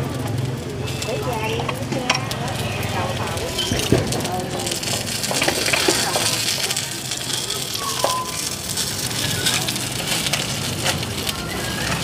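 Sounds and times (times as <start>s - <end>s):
cakes sizzling in oil: 0.0s - 12.0s.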